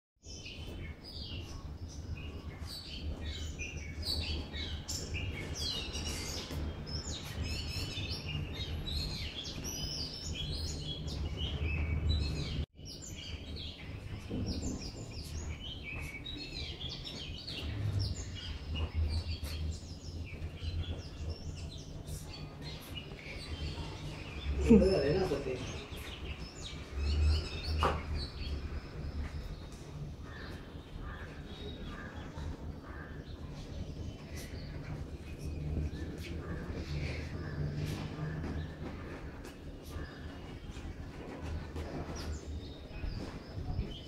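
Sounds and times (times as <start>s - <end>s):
small birds chirping: 0.2s - 44.0s.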